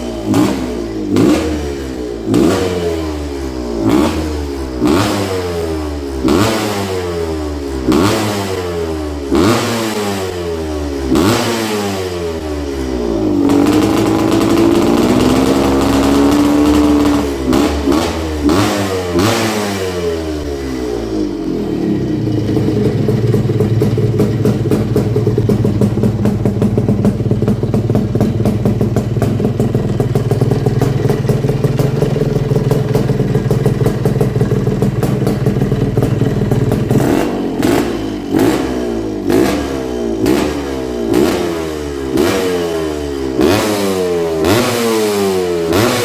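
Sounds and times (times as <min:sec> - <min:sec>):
two-stroke engine revving: 0:00.0 - 0:46.0.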